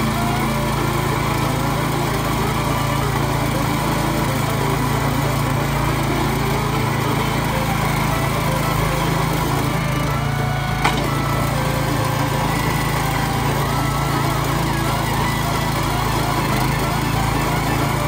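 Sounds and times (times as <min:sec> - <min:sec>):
small gas engine running: 0:00.0 - 0:18.0.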